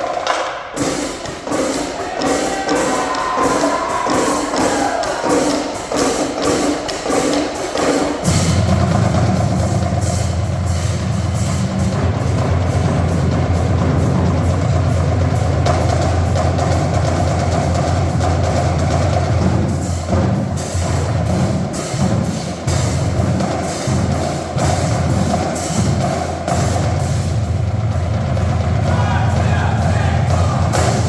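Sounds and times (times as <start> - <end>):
marching drumline cadence: 0.0 - 31.0.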